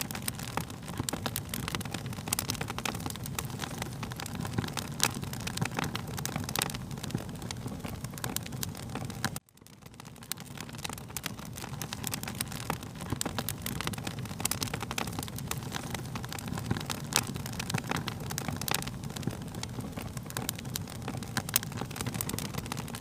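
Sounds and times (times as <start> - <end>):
fire crackling and popping: 0.0 - 23.0
low fire rumble: 0.0 - 23.0.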